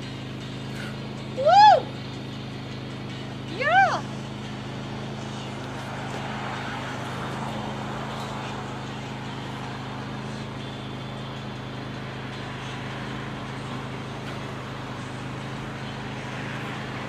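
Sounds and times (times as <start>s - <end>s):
urban background hum: 0.0s - 17.0s.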